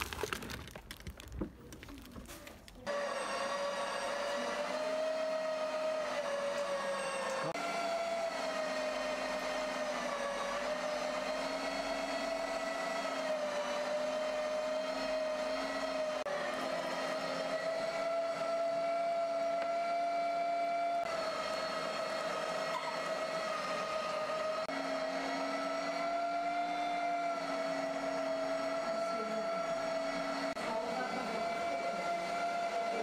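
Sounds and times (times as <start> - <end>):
meat grinder motor whining: 2.8 - 33.0.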